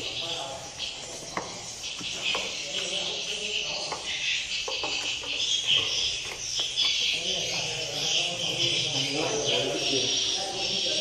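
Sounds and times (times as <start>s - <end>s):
swiftlets twittering: 0.0s - 11.0s.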